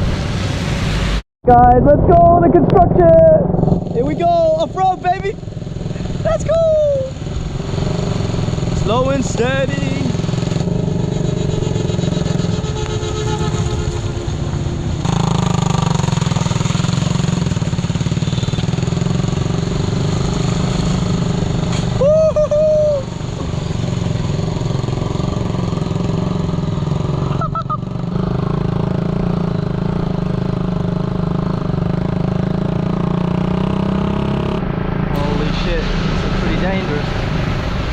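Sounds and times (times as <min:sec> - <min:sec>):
dirt bike engine running: 0:02.5 - 0:37.9.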